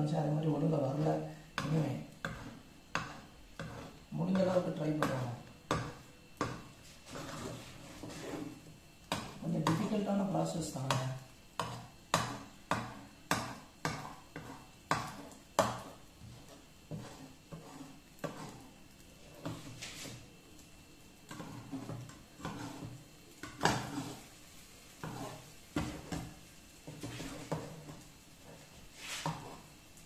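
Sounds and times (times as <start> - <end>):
metal spatula scraping frying pan: 1.6 - 10.0, 11.6 - 20.3, 21.3 - 24.3, 25.0 - 29.7.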